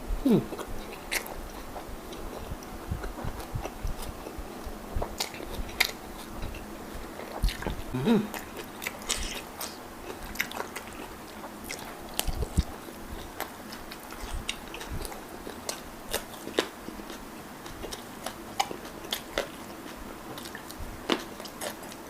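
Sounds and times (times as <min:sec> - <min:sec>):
person chewing crunchy food: 0:00.3 - 0:22.0.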